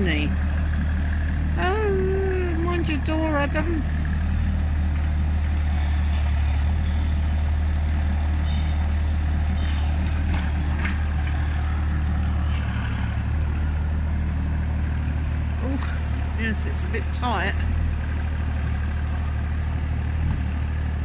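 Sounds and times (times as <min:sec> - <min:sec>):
excavator diesel engine: 0:00.0 - 0:21.0.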